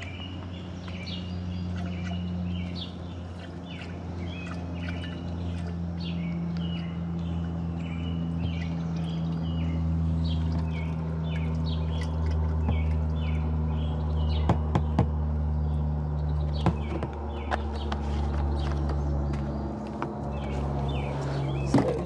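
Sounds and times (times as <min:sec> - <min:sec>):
low engine-like hum: 0:00.0 - 0:22.0
small birds chirping: 0:00.0 - 0:22.0.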